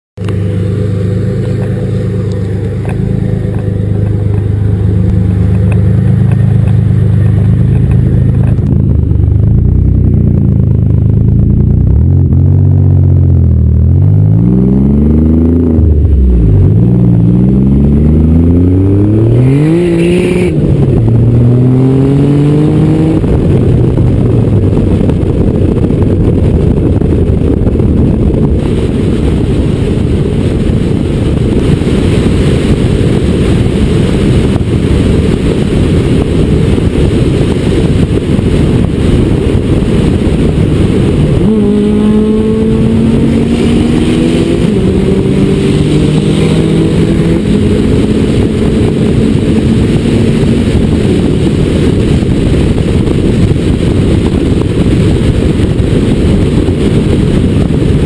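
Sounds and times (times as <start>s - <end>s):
car engine accelerating through gears: 0.2s - 58.0s
wind and road noise: 0.2s - 58.0s.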